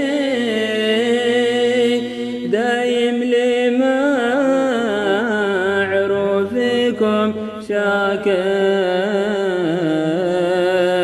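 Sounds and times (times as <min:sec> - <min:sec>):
person singing ornamented melody: 0:00.0 - 0:11.0.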